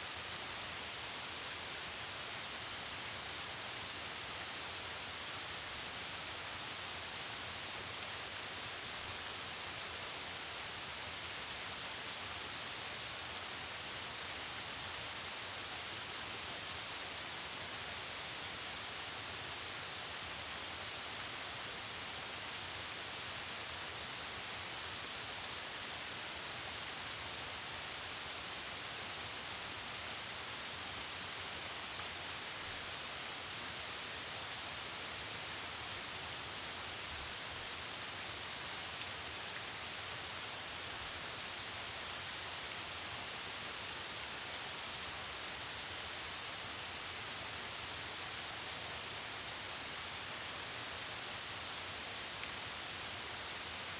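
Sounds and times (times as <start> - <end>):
waterfall rushing down rocks: 0.0 - 53.9.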